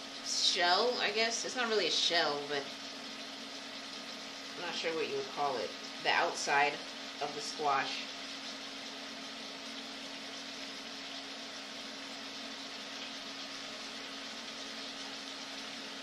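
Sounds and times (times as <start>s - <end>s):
chicken sizzling in a skillet: 0.0s - 16.0s.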